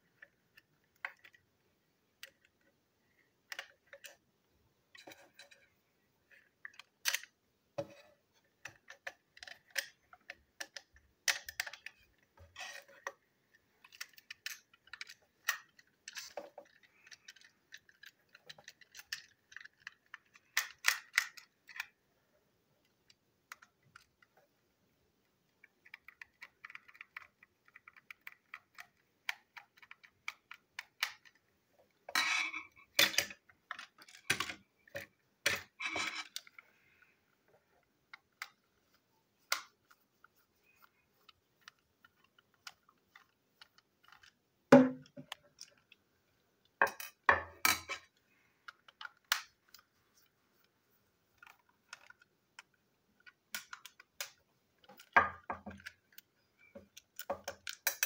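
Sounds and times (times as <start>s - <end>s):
plastic parts clicking and tapping: 0.0s - 4.2s, 4.9s - 22.0s, 22.8s - 24.6s, 25.2s - 50.7s, 51.3s - 58.0s.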